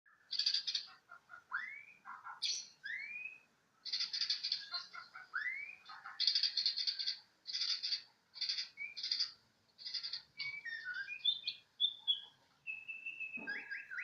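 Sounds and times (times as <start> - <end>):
young songbird chirping: 0.1 - 14.0.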